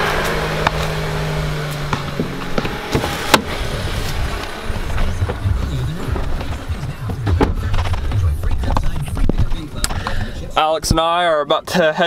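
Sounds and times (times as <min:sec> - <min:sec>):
car engine idling: 0:00.0 - 0:10.9
low rumbling handling noise: 0:00.0 - 0:11.0.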